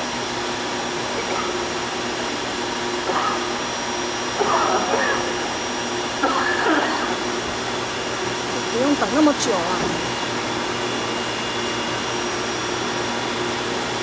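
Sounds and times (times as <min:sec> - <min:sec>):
drill machine humming: 0:00.0 - 0:14.0
coolant hissing: 0:00.9 - 0:12.4.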